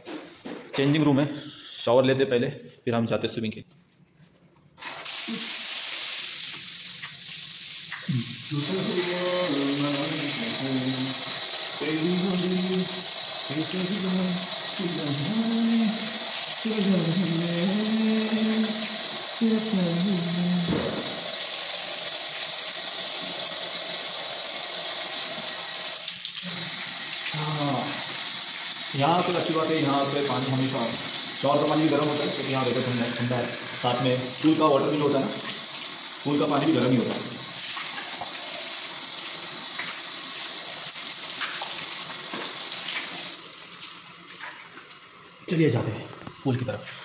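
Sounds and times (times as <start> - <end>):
shower spray on tiled floor: 4.8 - 45.2.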